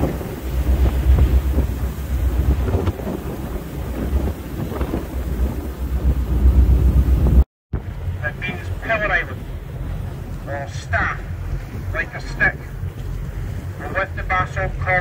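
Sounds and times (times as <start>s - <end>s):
churning water from wake: 0.0s - 15.0s
wind buffeting microphone: 0.0s - 15.0s.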